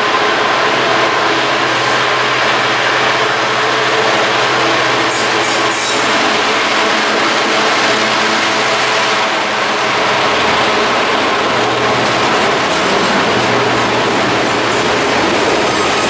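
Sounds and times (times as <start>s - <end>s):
diesel locomotive engine droning: 0.0s - 16.0s
train wheels on rails: 0.0s - 16.0s.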